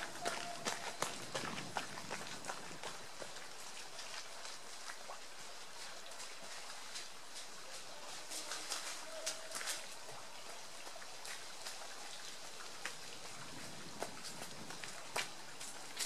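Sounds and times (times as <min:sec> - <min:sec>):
running footsteps on road: 0:00.0 - 0:04.2, 0:06.8 - 0:16.0
steady outdoor hiss: 0:00.0 - 0:16.0.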